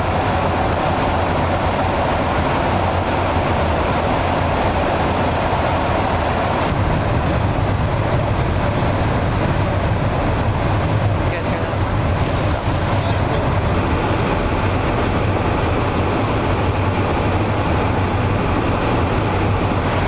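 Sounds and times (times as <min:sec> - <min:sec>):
airflow rushing: 0:00.0 - 0:20.0
low engine drone: 0:00.0 - 0:20.0.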